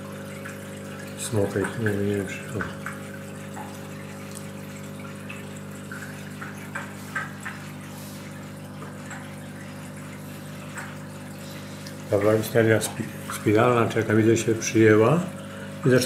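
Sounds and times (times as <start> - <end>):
aquarium equipment hum: 0.0 - 16.0
water bubbling and trickling: 0.0 - 16.0.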